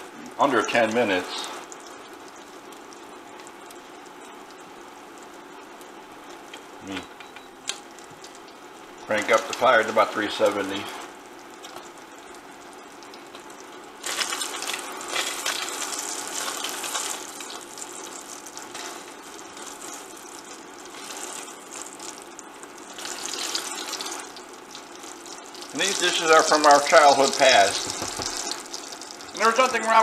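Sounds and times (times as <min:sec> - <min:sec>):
meat sizzling in oil: 0:00.0 - 0:06.8, 0:07.8 - 0:30.0.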